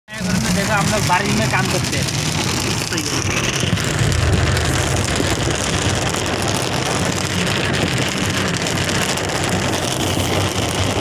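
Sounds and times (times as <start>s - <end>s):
rain hiss: 0.1s - 11.0s
tyres on wet road: 0.1s - 11.0s
vehicle rumble inside cabin: 0.1s - 11.0s.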